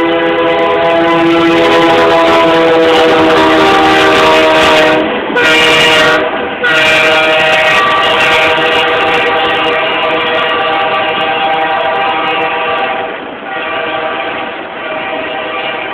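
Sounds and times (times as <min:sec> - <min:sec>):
locomotive air horn blasts: 0:00.0 - 0:15.9
train passing: 0:00.0 - 0:15.9.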